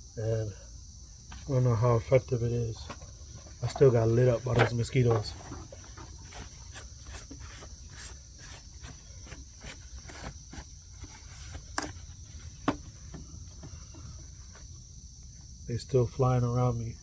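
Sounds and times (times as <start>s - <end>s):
insect chorus chirring: 0.0s - 17.0s.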